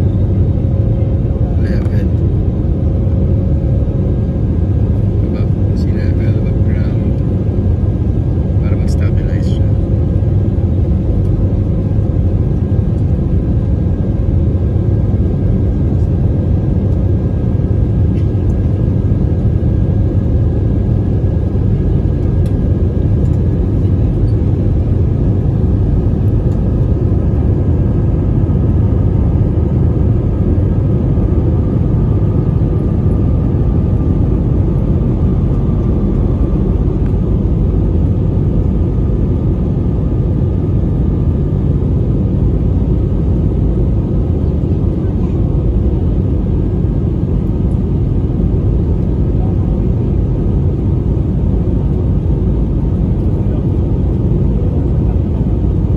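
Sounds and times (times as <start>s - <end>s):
airliner engines rumbling: 0.0s - 55.9s.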